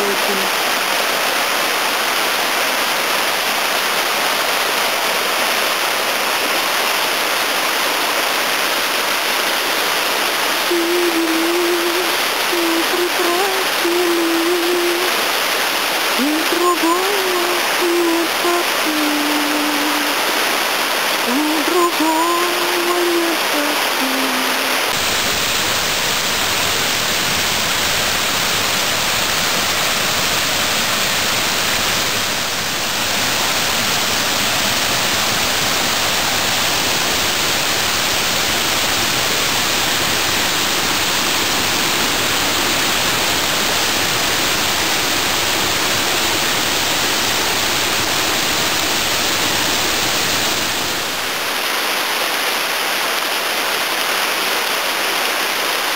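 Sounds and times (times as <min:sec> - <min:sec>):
waterfall roaring: 0:00.0 - 0:55.9.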